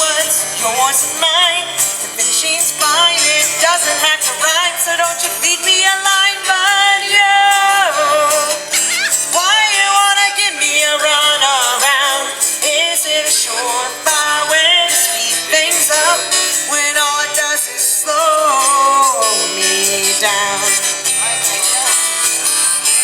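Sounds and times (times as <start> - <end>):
guitar: 0.0 - 23.0.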